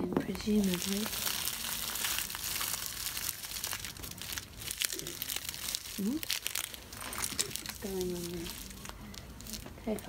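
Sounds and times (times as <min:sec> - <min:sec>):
stocking rustling and crinkling: 0:00.2 - 0:10.0.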